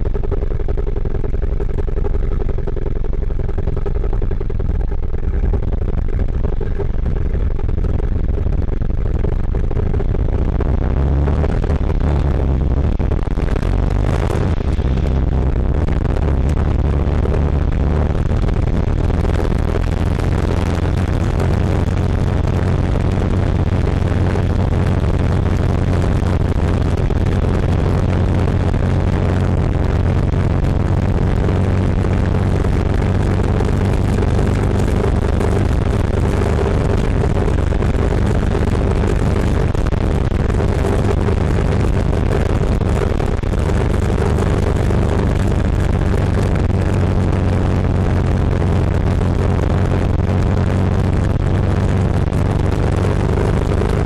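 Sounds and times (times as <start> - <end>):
muffled distorted motorcycle engine: 0.0 - 54.0.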